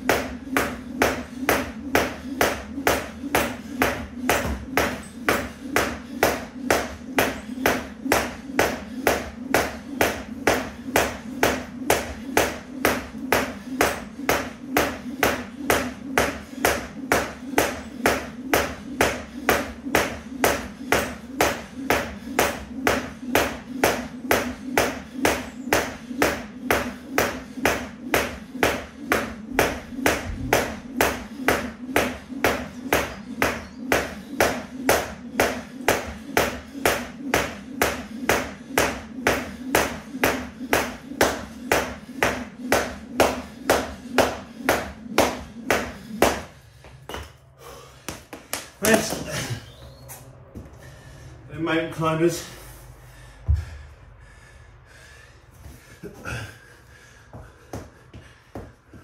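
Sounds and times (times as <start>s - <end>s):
feet landing: 0.0s - 49.6s, 55.6s - 59.0s
jump rope slapping floor mat: 0.0s - 49.6s, 55.0s - 59.0s.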